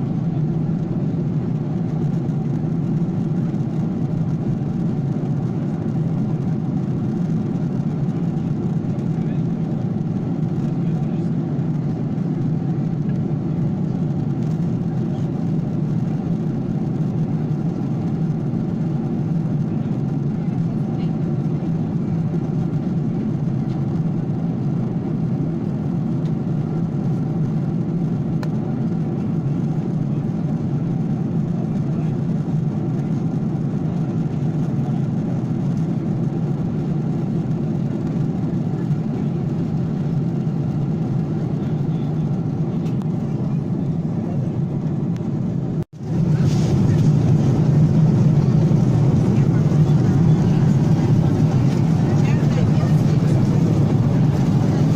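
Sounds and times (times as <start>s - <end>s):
airliner cabin drone: 0.0s - 54.9s.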